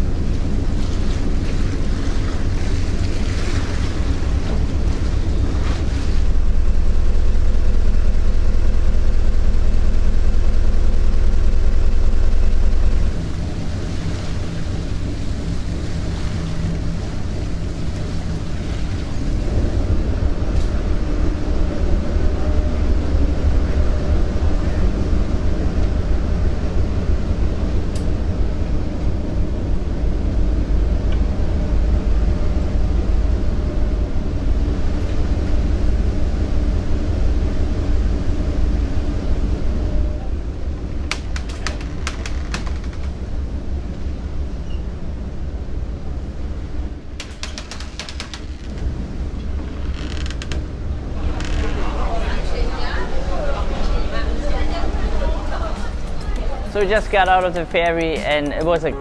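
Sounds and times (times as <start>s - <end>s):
ferry engine drone: 0.0s - 59.0s.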